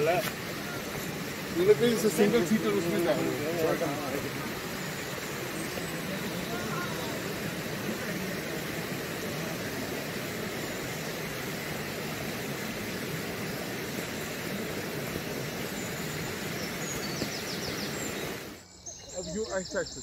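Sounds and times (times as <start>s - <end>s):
stream rushing: 0.0s - 18.6s.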